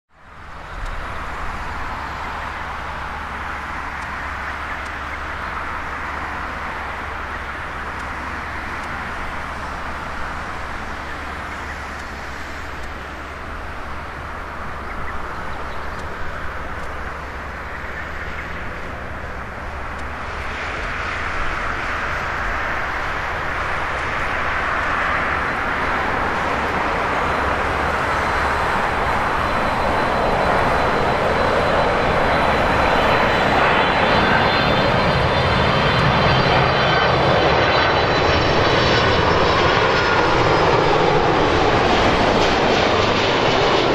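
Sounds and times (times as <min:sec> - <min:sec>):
jet engine rumble and hiss: 0:00.1 - 0:43.9.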